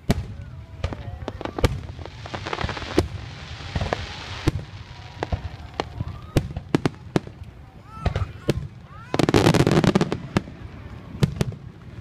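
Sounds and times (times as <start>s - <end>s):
crackling hiss: 0.0s - 12.0s
fireworks bangs: 0.0s - 12.0s.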